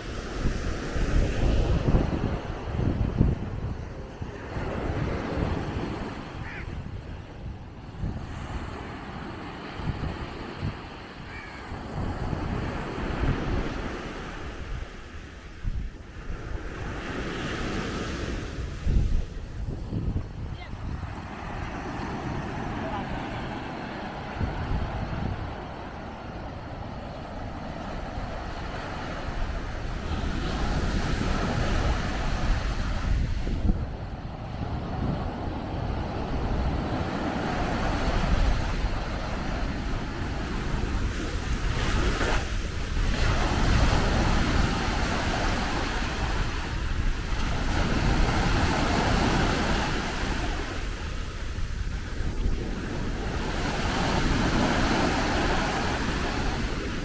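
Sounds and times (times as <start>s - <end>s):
surf breaking on a beach: 0.0s - 57.0s
wind rumbling on microphone: 0.0s - 57.0s.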